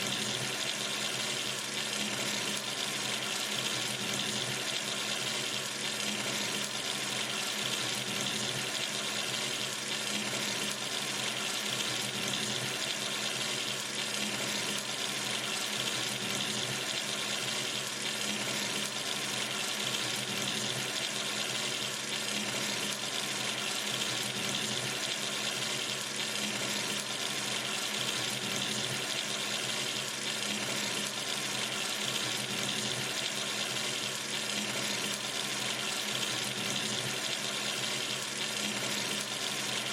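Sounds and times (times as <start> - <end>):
sink tap running: 0.0 - 39.9.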